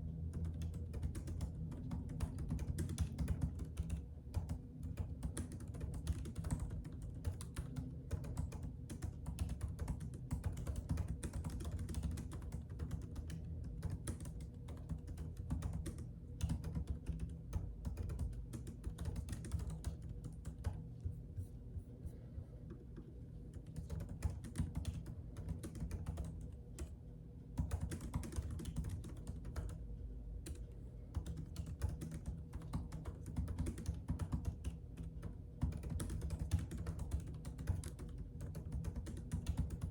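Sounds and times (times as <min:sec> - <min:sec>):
steady low hum: 0:00.0 - 0:39.9
keyboard typing: 0:00.2 - 0:21.5, 0:22.9 - 0:27.0, 0:27.6 - 0:29.8, 0:30.4 - 0:39.9.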